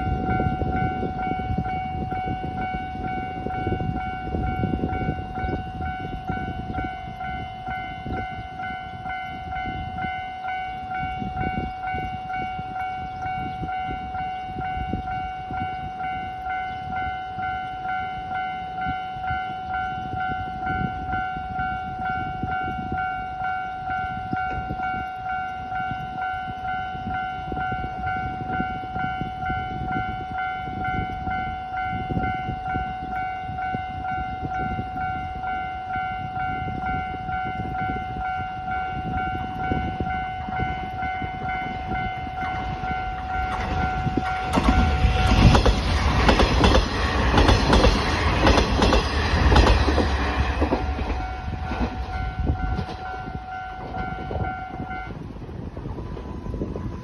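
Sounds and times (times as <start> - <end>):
level-crossing bell ringing: 0.0 - 57.0
train rumbling and clattering past: 0.0 - 57.0.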